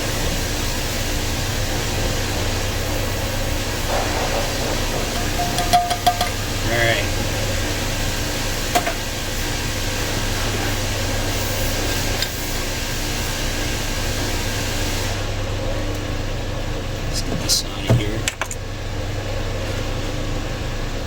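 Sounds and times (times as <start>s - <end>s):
machinery hum and hiss: 0.0s - 21.0s.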